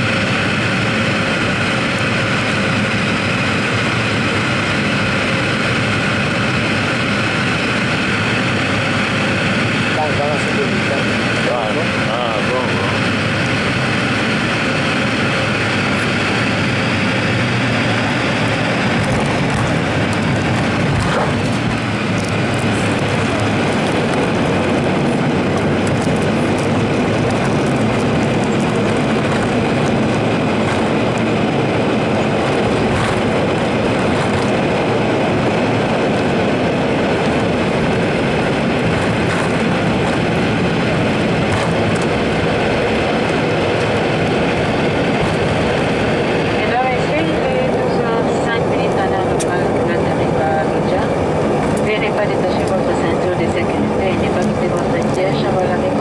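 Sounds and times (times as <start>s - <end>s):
airplane engine and propeller noise: 0.0s - 56.0s
plane rolling on dirt runway: 0.0s - 56.0s.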